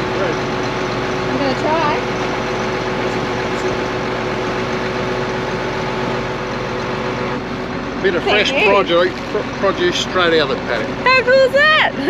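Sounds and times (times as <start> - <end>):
harvester engine idling: 0.0 - 12.0.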